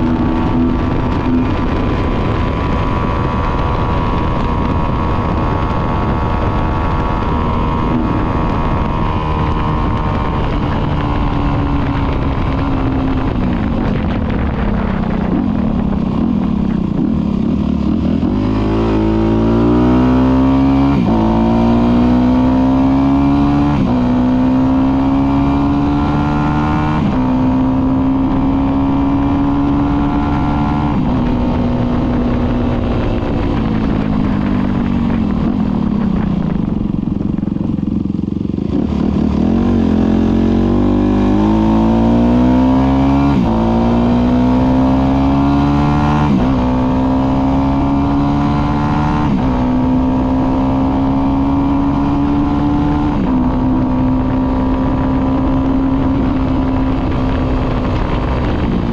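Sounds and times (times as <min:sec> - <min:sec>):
motorcycle engine shifting gears: 0:00.0 - 0:58.9.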